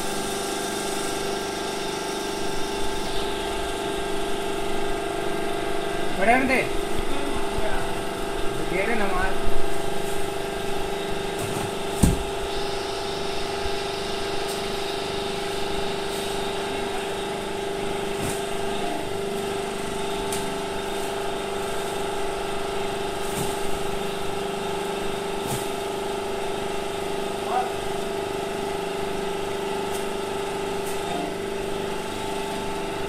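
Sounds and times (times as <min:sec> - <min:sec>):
hydraulic press motor humming: 0:00.0 - 0:33.0.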